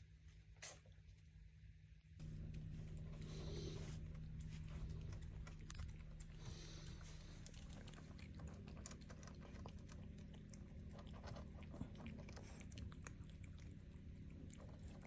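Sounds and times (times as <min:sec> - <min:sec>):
low steady hum: 0:00.0 - 0:15.0
cat crunching food: 0:02.2 - 0:15.0.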